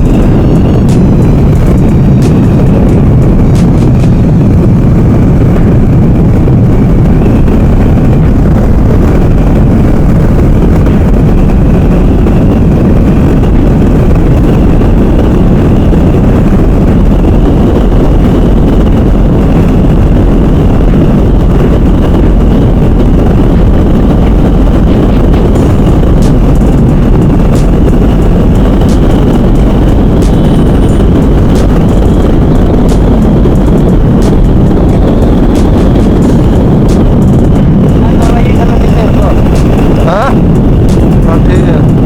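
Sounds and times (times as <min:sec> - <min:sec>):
motorcycle engine running: 0:00.0 - 0:42.0
wind rumble on microphone: 0:00.0 - 0:42.0.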